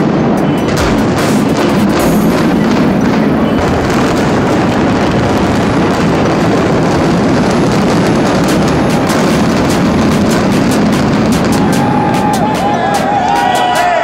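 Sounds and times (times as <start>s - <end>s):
falling debris crackles: 0.0s - 13.4s
building collapse roar: 0.0s - 14.0s.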